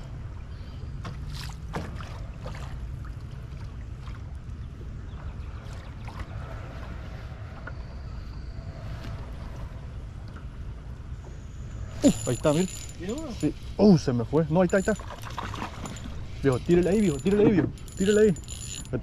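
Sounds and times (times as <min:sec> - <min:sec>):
water slapping boat hull: 0:00.0 - 0:18.3.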